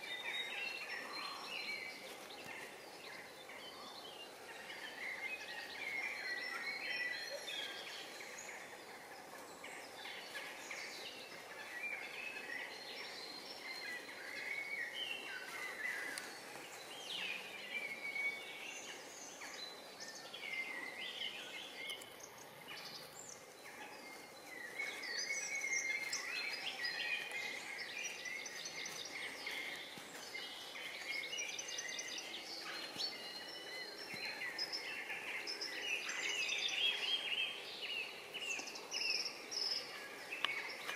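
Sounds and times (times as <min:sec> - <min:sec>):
birds singing and chirping: 0:00.0 - 0:40.9
faint background hiss: 0:00.0 - 0:40.9.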